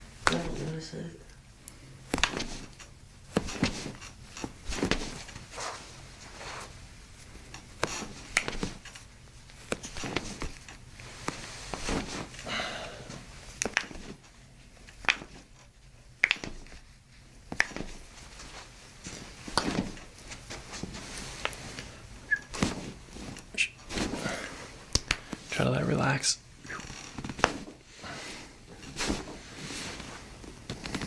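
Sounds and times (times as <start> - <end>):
soft handling rustle: 0.4 - 31.0.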